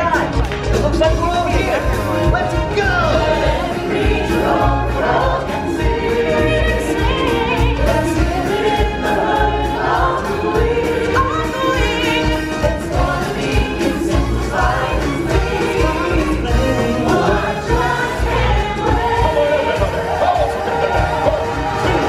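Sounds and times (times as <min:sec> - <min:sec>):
band track with pulsing bass: 0:00.0 - 0:22.0
choir singing: 0:01.6 - 0:22.0.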